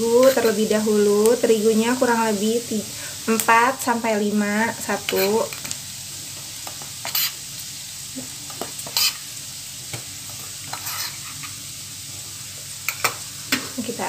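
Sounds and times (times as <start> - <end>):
garlic and onion sizzling in a pan: 0.0 - 14.0.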